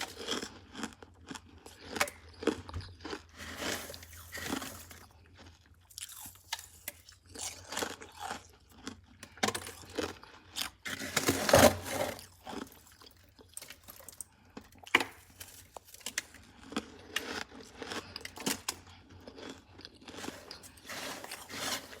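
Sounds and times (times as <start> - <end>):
person chewing crunchy frost: 0.0 - 22.0.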